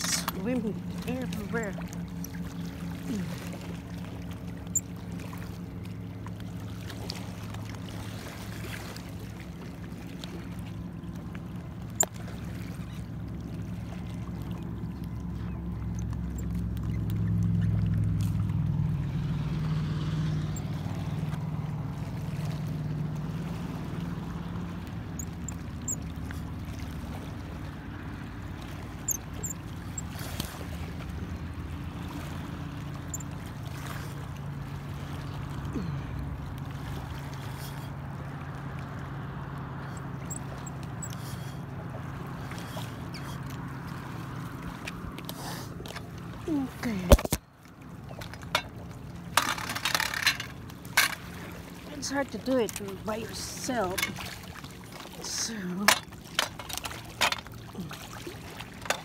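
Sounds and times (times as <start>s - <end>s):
motorboat engine droning: 0.0s - 59.0s.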